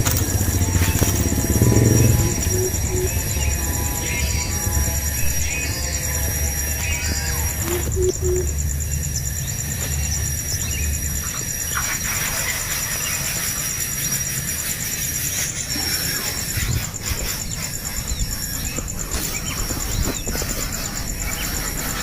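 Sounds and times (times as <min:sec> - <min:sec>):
high pulsing buzz: 0:00.0 - 0:22.0
noisy background: 0:00.0 - 0:22.0
young birds chirping: 0:00.0 - 0:22.0.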